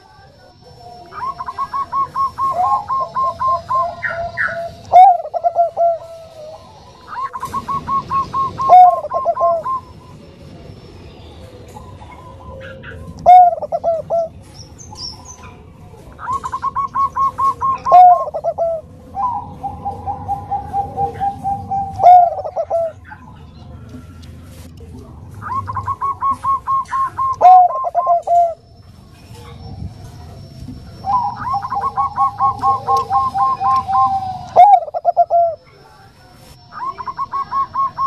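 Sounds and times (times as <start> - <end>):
dove cooing: 0.0 - 10.1, 11.8 - 23.4, 25.3 - 28.6, 29.3 - 38.0.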